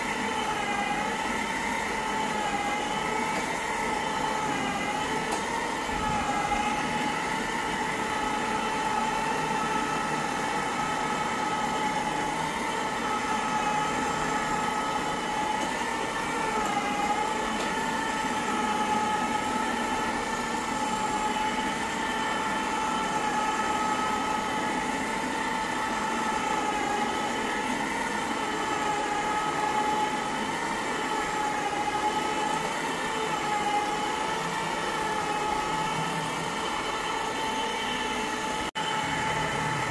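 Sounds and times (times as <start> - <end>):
carpet cleaning machine whine: 0.0 - 39.9.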